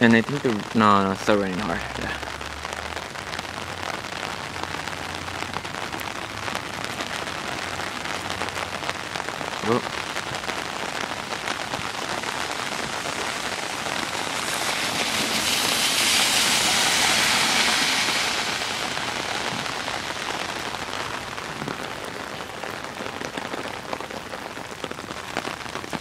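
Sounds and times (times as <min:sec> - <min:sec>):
heavy rain on pavement: 0:00.0 - 0:26.0
rain on umbrella: 0:00.0 - 0:26.0.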